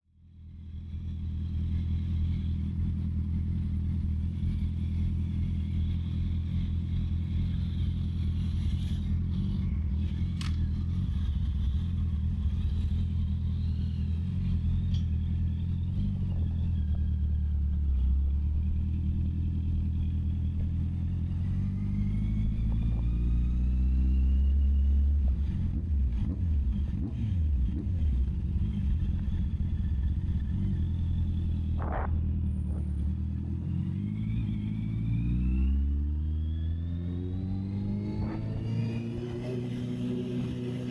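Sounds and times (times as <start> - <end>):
motorcycle engine revving: 0.6 - 40.9.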